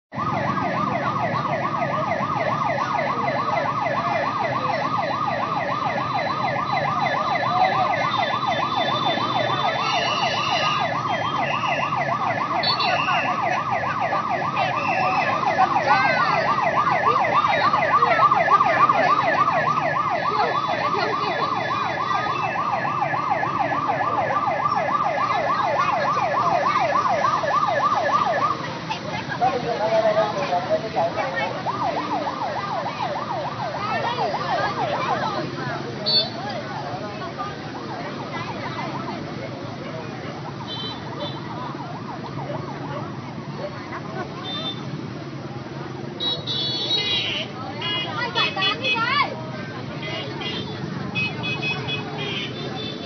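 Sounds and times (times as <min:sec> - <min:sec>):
fire engine siren yelping: 0:00.1 - 0:53.0.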